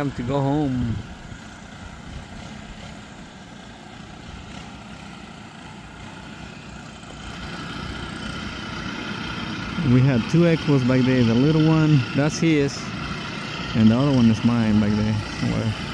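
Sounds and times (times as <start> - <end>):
leaf blowers whining: 0.0 - 15.9.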